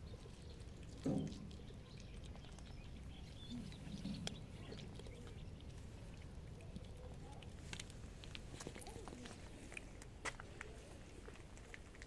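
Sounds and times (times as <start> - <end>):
cats crunching dry kibble: 0.0 - 12.0.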